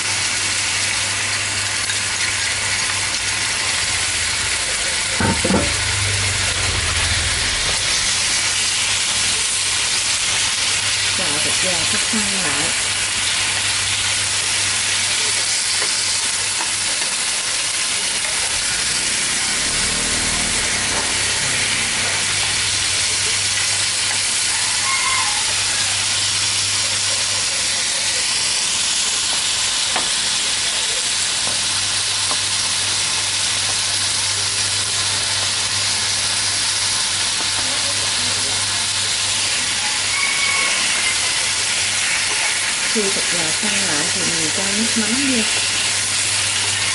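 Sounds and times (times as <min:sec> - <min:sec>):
chicken sizzling in a frying pan: 0:00.0 - 0:46.9.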